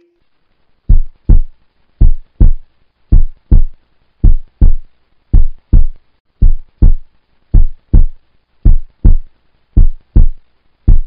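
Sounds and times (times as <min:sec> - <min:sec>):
heartbeat thumps: 0:00.9 - 0:11.0.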